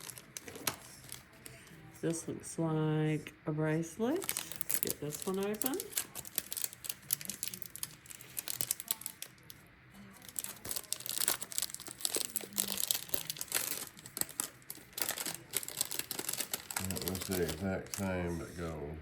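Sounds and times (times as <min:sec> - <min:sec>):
jewelry bag crackling: 0:00.0 - 0:01.6, 0:04.2 - 0:18.1.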